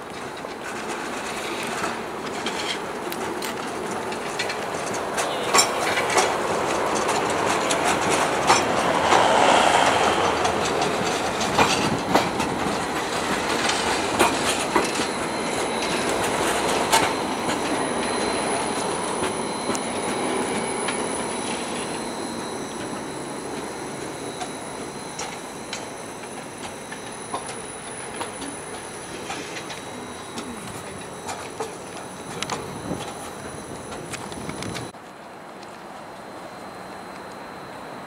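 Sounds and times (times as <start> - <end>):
wheel clacks over rail joints: 0.0 - 35.0
tram rolling past: 0.0 - 38.0
high wheel squeal: 4.3 - 35.0.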